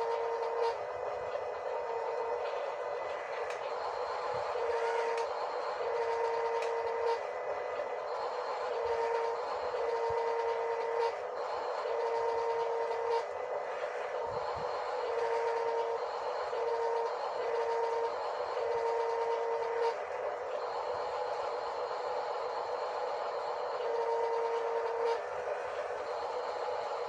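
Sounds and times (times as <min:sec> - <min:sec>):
hissing engine-like noise: 0:00.0 - 0:27.0.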